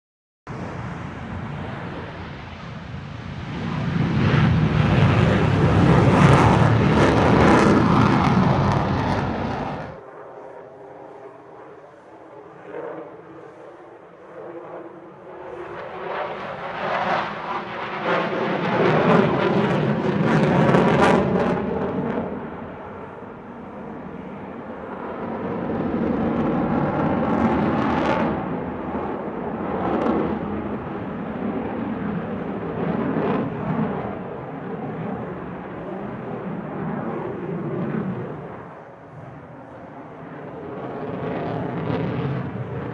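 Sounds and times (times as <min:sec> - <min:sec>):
fighter jet roar: 0:00.5 - 0:11.2, 0:14.8 - 0:42.9.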